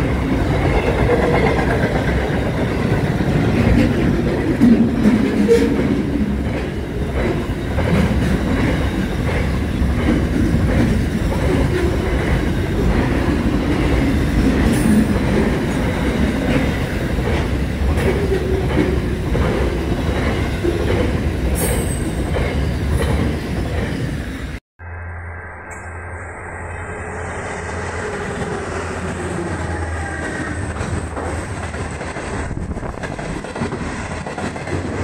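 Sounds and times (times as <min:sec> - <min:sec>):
steel wheels clattering on rails: 0:00.0 - 0:24.0, 0:28.4 - 0:35.0
freight train rumbling past: 0:00.0 - 0:35.0.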